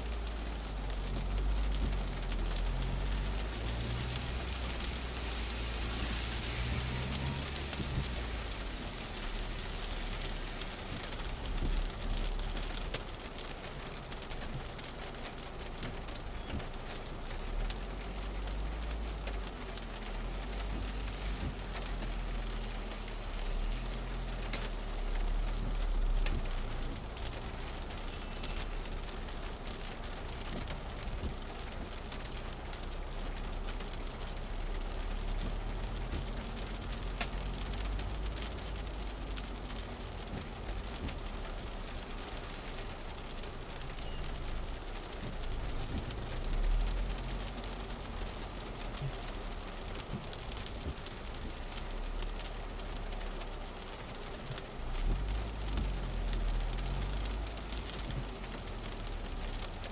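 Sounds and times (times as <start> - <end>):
heavy rain on car roof: 0.0 - 59.9
raindrop ticks: 0.0 - 59.9.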